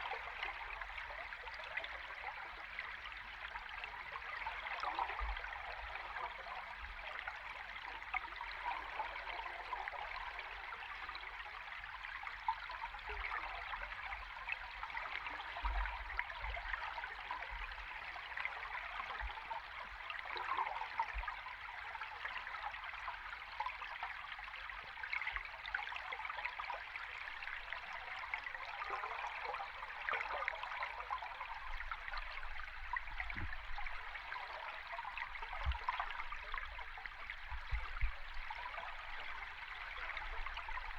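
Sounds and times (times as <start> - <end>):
underwater stream bubbling: 0.0 - 40.9.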